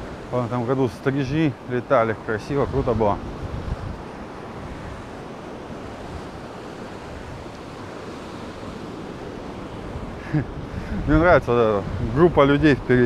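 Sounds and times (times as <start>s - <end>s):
small waves breaking on sand: 0.0s - 13.0s
wind noise on microphone: 2.5s - 13.0s.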